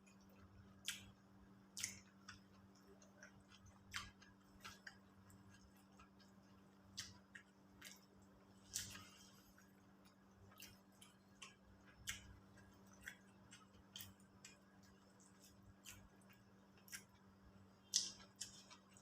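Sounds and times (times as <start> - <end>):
faint low hum: 0.0 - 19.0
mouth clicks of chewing food: 0.0 - 19.0.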